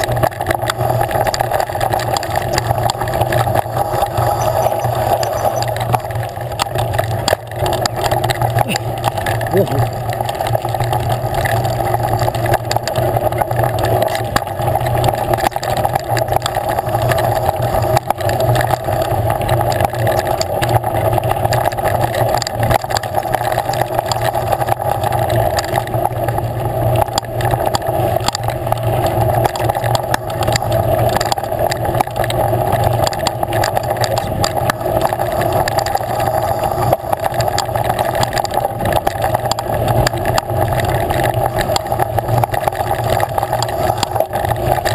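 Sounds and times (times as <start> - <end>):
bike rattling and clicking: 0.0 - 44.9.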